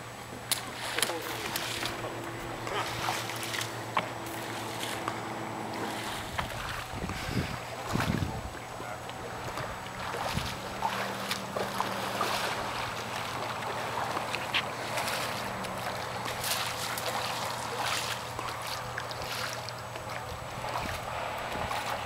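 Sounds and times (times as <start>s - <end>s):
low hum: 0.0s - 22.0s
water splashing and lapping: 0.0s - 22.0s.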